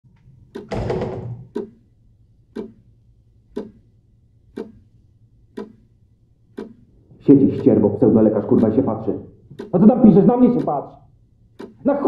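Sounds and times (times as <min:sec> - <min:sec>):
wall clock ticking: 0:00.1 - 0:12.0.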